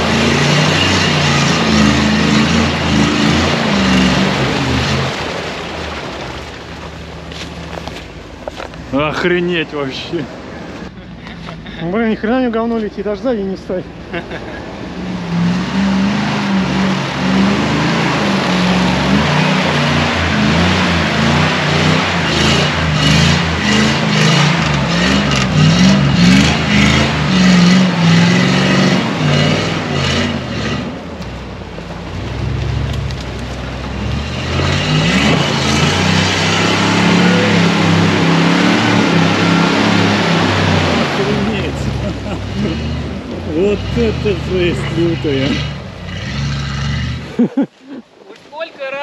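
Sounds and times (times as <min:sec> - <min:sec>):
truck engine revving hard: 0:00.0 - 0:07.0, 0:08.8 - 0:48.2.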